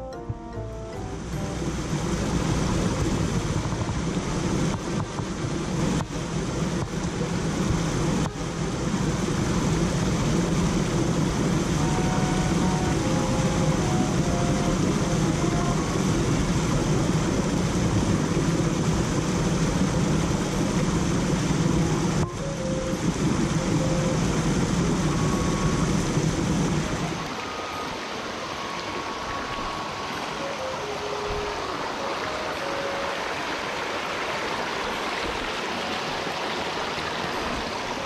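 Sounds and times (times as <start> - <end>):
stream rushing over rocks: 0.1 - 38.0.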